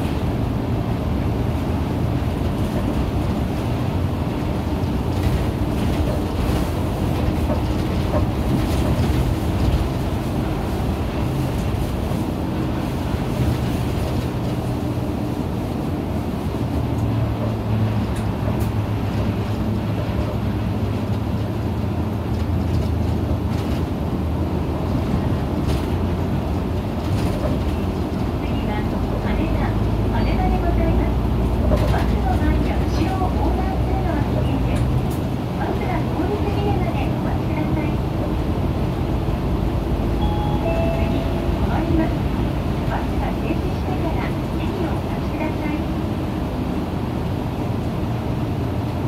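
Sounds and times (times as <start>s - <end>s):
bus engine drone: 0.0s - 49.0s
road noise: 0.0s - 49.0s.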